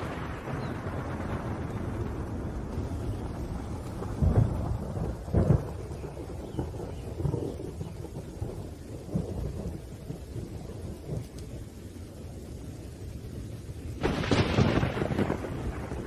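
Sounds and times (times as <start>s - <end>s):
loud thunderclap: 0.0s - 11.7s, 13.4s - 16.0s
rain: 0.0s - 16.0s
rolling thunder rumble: 0.0s - 16.0s.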